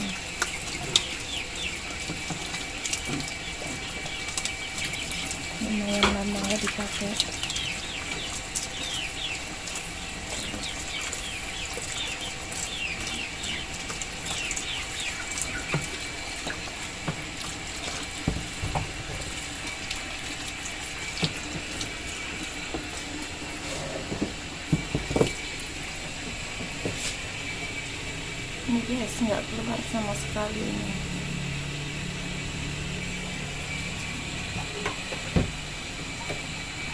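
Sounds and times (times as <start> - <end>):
birds chirping: 0.0 - 36.9
water running into washing machine: 0.0 - 36.9.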